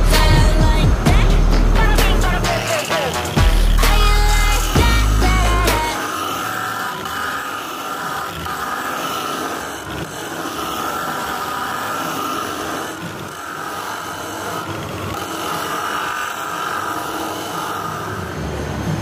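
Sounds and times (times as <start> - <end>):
angle grinder grinding stone: 0.0 - 19.0.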